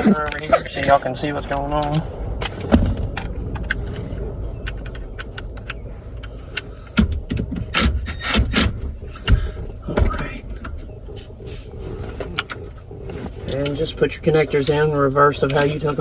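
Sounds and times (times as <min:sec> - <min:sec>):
microphone bump rumble: 0:00.0 - 0:07.8, 0:08.5 - 0:14.8
knocks and rattles: 0:00.8 - 0:14.8.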